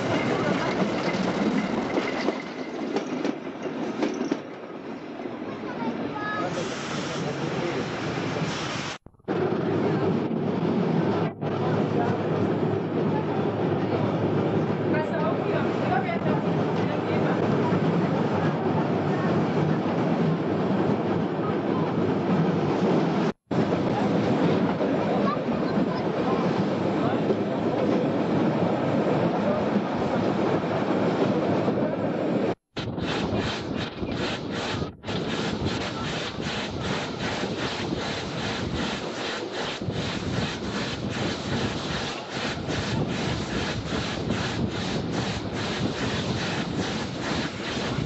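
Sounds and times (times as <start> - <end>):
tram rumbling on rails: 0.0 - 48.0
wind on microphone: 6.6 - 48.0.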